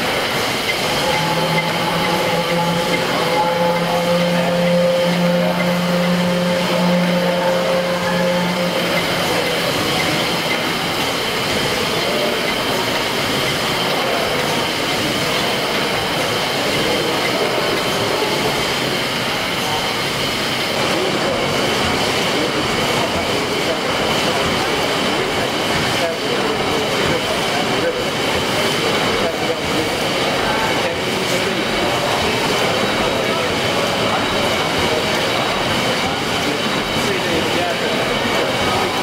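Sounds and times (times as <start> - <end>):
steady hum: 0.0 - 39.0
steam engine running: 0.0 - 39.0.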